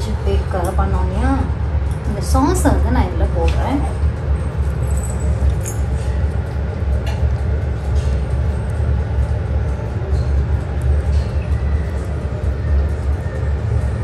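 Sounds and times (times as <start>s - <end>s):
machinery rumbling: 0.0s - 14.0s.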